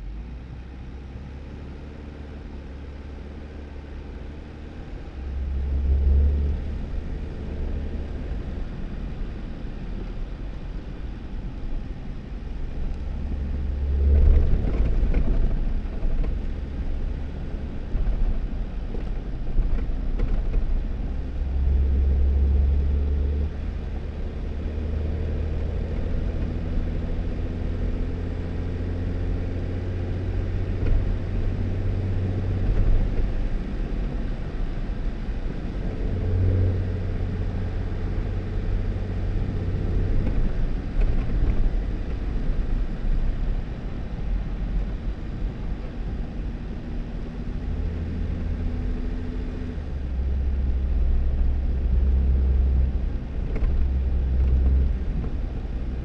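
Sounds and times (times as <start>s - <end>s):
car engine running: 0.0s - 56.0s
tyres rumbling on dirt road: 1.5s - 56.0s.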